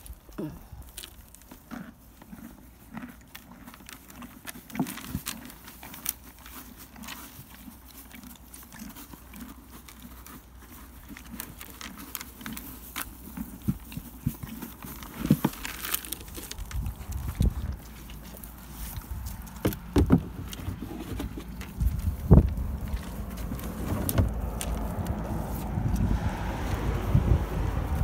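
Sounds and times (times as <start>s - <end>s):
horse chewing grain: 0.0s - 28.0s.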